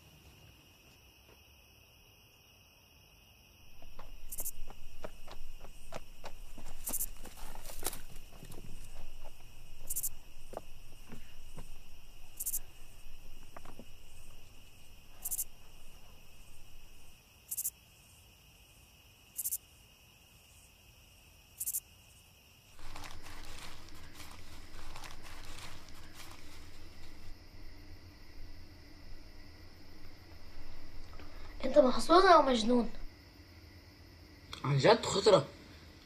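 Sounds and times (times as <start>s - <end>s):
insects trilling: 0.0s - 36.0s
sharp high insect chirp: 1.8s - 35.2s.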